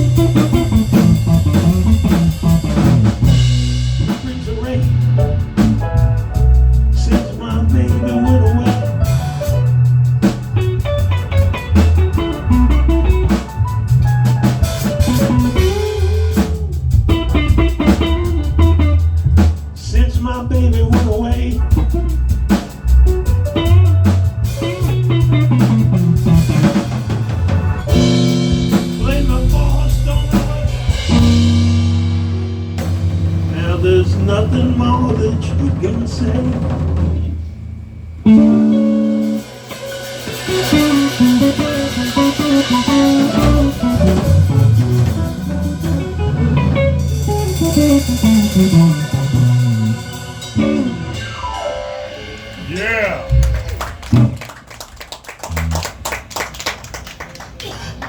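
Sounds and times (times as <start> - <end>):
instrumental band music: 0.0 - 57.5.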